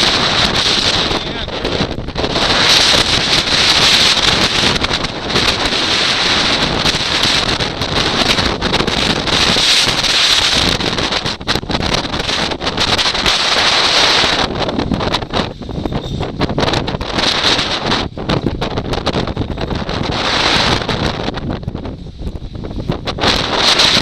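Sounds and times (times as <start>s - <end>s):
strong wind on microphone: 0.0s - 24.0s.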